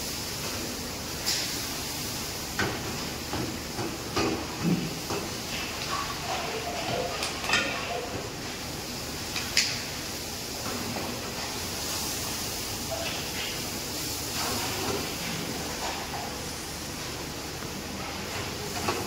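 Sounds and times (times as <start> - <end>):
gravy hissing in a pan: 0.0 - 19.0.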